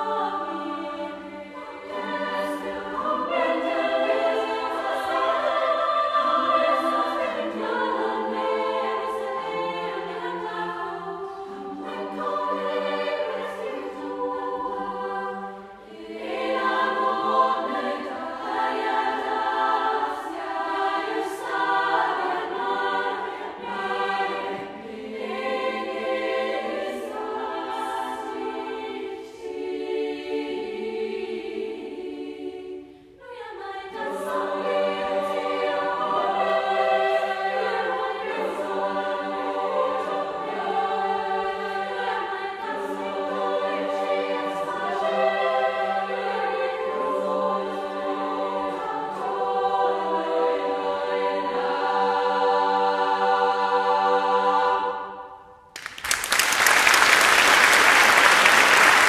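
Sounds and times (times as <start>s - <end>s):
girls' choir singing a cappella: 0.0s - 55.8s.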